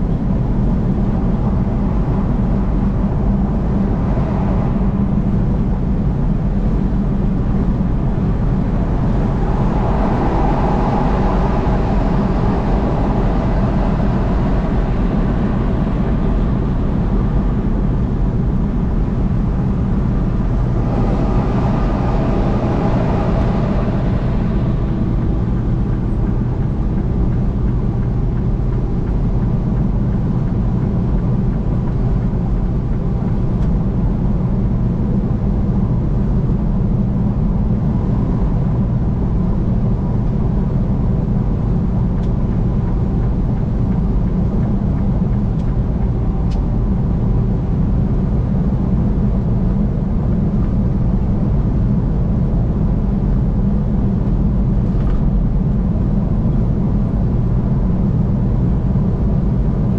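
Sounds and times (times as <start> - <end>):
low engine hum: 0.0 - 59.9
tyre road roar: 0.0 - 59.9.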